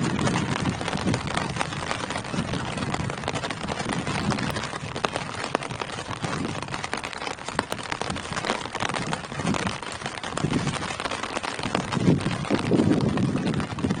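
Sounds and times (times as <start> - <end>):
rain on tree leaves: 0.0 - 14.0.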